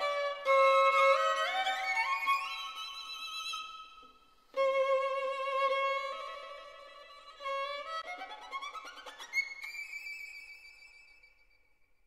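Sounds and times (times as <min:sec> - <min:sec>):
violin music: 0:00.0 - 0:10.4.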